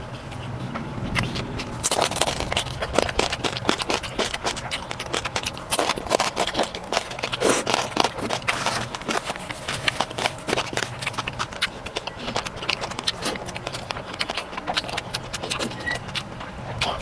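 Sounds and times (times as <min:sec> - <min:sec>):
person chewing food: 0:00.3 - 0:17.0.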